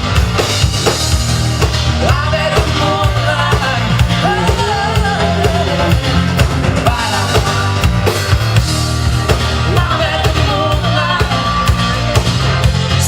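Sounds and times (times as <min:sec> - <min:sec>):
drum kit beat: 0:00.0 - 0:13.0
heavy bass line: 0:00.0 - 0:13.0
rock band playing: 0:00.0 - 0:13.0.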